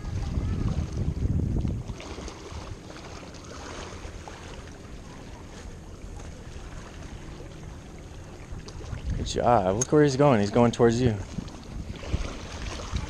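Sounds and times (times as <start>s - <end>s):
wind buffeting microphone: 0.0s - 13.0s
small waves lapping on rocks: 1.8s - 13.0s.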